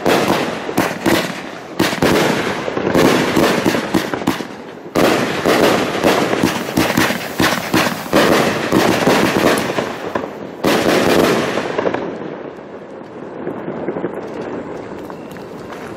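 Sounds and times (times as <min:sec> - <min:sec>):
fireworks bursting: 0:00.0 - 0:15.9.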